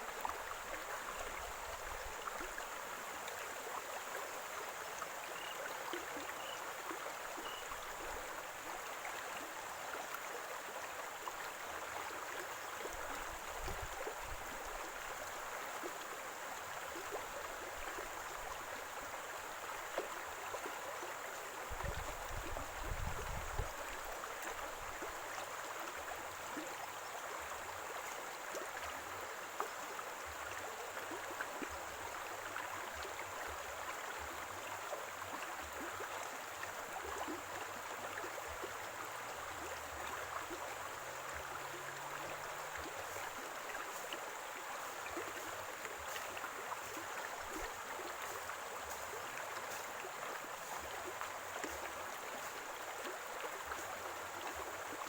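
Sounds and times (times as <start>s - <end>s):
stream water gurgling: 0.0s - 55.0s.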